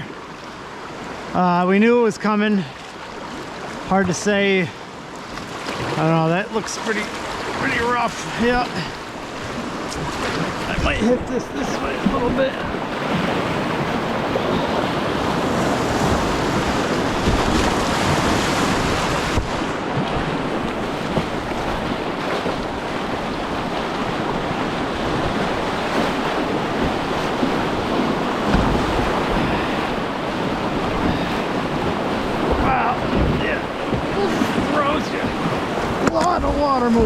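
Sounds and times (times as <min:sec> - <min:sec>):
whitewater rapids rushing: 0:05.6 - 0:37.0
wind buffeting microphone: 0:06.9 - 0:37.0.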